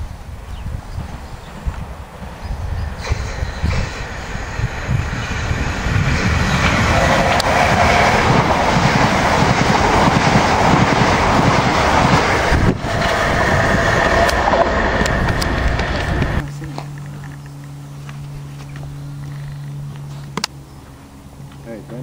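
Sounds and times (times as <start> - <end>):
electric train rushing past: 0.0 - 19.9.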